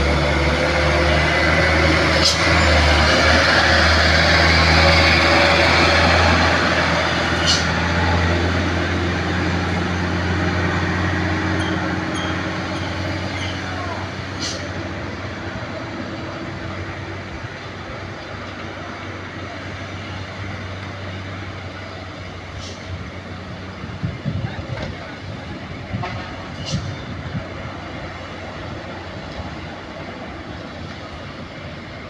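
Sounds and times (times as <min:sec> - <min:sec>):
road noise: 0:00.0 - 0:32.0
truck diesel engine droning: 0:00.0 - 0:32.0.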